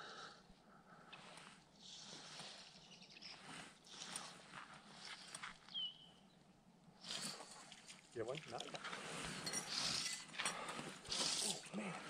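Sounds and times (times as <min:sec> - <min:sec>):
soft outdoor hiss: 0:00.0 - 0:12.0.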